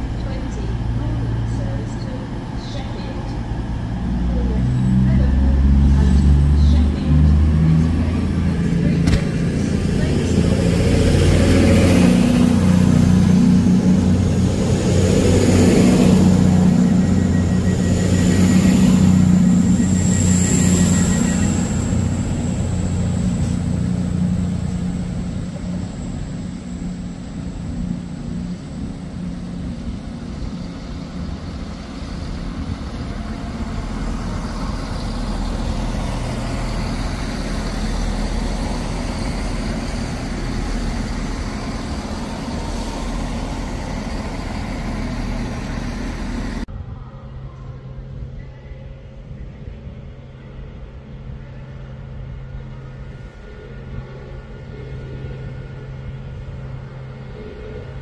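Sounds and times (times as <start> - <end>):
diesel train engine: 0.0 - 58.0
high engine whine: 0.0 - 58.0.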